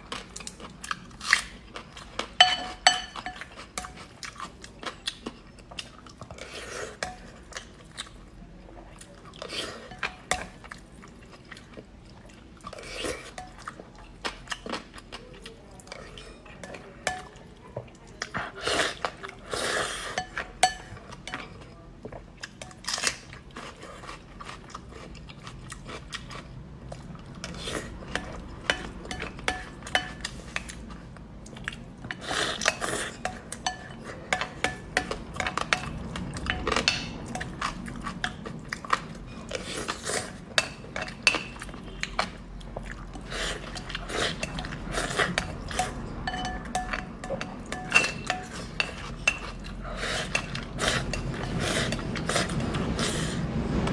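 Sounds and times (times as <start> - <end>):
chewing: 8.9 - 53.3.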